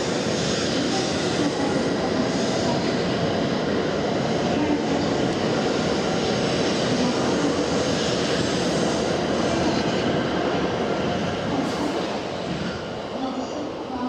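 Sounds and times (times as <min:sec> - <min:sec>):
high-speed train rushing: 0:00.0 - 0:14.0.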